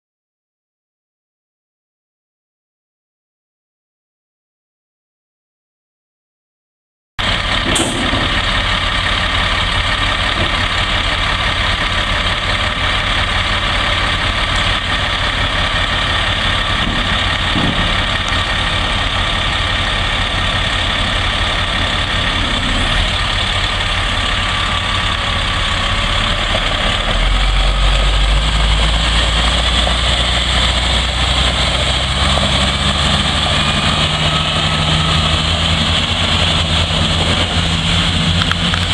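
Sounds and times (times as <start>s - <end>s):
diesel truck engine idling: 7.2s - 38.9s.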